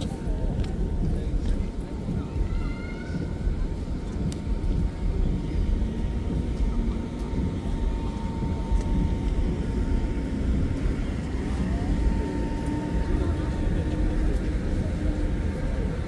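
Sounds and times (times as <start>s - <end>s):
city street traffic rumble: 0.0s - 16.0s
faint steady whine: 0.0s - 16.0s.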